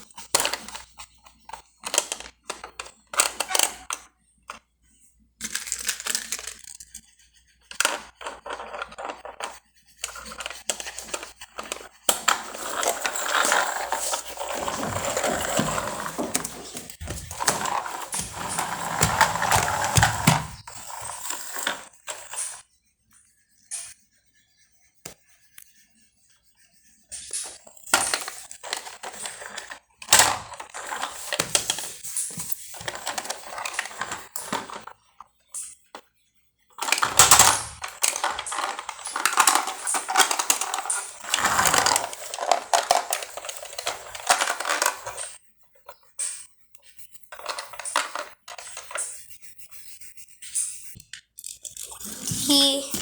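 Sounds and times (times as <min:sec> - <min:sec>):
plastic toy vehicles clattering: 0:00.0 - 0:04.7, 0:05.4 - 0:22.6, 0:27.3 - 0:36.1, 0:36.7 - 0:49.2.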